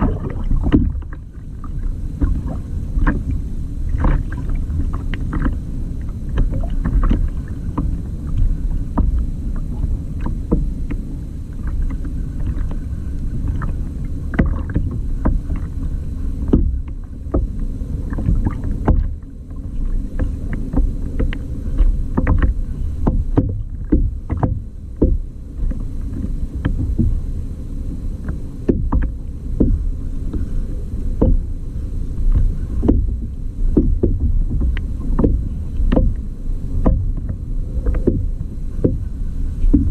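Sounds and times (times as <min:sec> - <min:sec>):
low rumble of moving water: 0:00.0 - 0:39.9
water splashing against kayak hull: 0:00.0 - 0:39.9.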